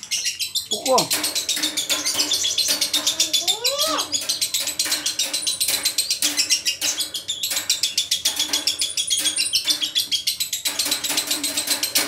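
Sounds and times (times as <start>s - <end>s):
lovebird chirping: 0.0s - 12.0s.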